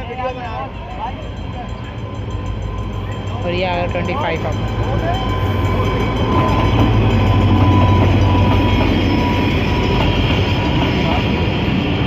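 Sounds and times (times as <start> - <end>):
diesel locomotive humming: 0.0 - 12.0
wheels rumbling on rail: 0.0 - 12.0.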